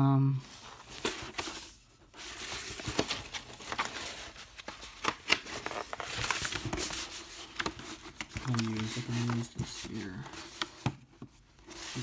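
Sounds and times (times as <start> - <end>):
paper poster rustling and crackling: 0.4 - 12.0.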